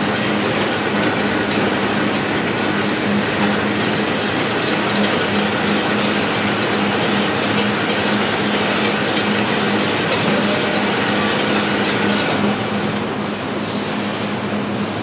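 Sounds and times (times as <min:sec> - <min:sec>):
printing press machine noise: 0:00.0 - 0:15.0.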